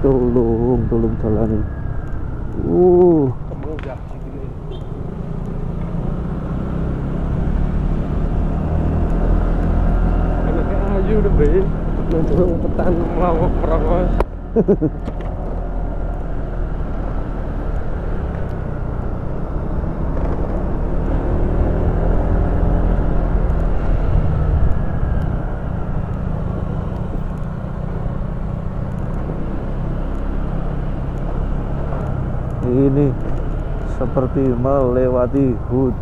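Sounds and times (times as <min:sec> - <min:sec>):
motorcycle engine rumbling: 0:00.0 - 0:36.0.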